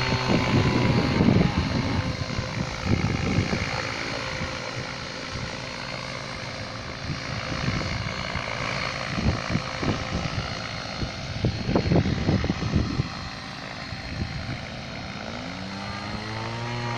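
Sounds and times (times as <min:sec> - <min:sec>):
model helicopter rotor whirring: 0:00.0 - 0:16.9.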